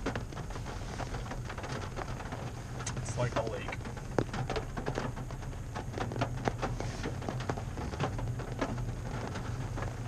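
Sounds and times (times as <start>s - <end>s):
raindrops tapping on roof: 0.0s - 10.0s.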